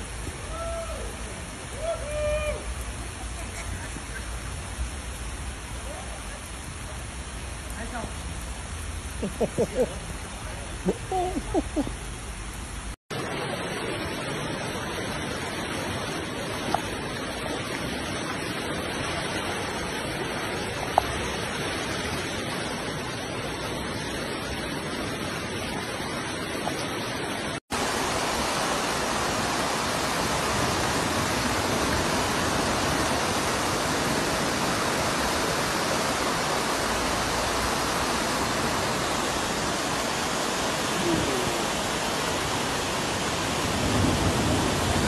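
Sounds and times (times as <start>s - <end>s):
floodwater rushing along street: 0.0s - 45.0s.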